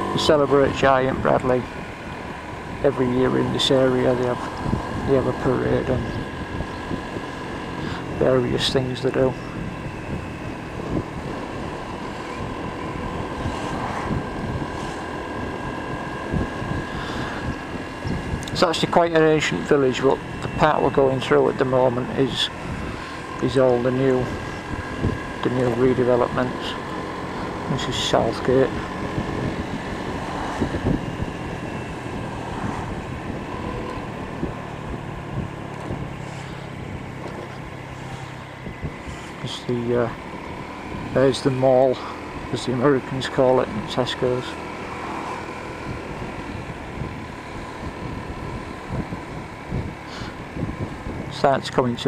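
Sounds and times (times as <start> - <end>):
wind buffeting microphone: 0.0 - 19.6, 20.2 - 52.0
scooter engine running: 0.0 - 52.0.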